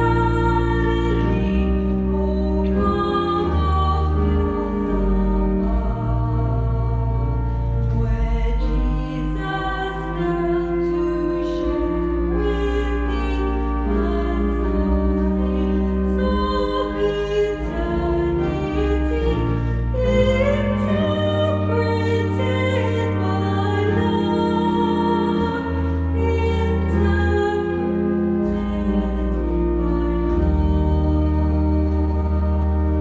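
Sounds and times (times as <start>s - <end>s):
choir singing: 0.0s - 33.0s.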